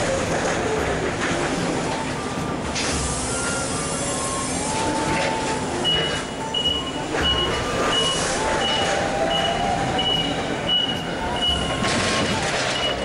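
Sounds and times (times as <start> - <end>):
loud machinery noise: 0.0 - 13.0
forklift warning beeps: 1.8 - 13.0.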